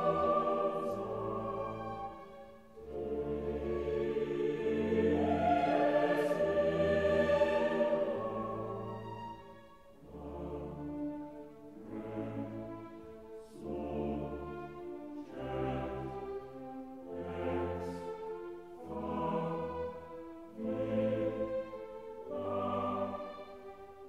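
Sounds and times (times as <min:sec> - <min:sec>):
slow orchestral background music: 0:00.0 - 0:24.0.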